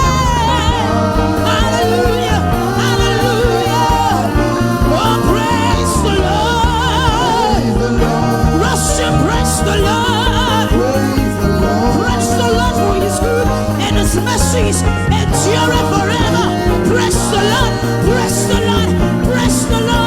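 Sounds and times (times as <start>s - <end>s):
bass and keyboard chords: 0.0s - 20.0s.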